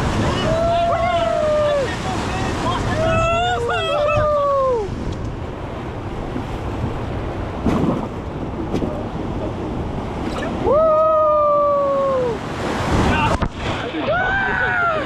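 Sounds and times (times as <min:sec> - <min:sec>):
rushing whitewater: 0:00.0 - 0:15.0.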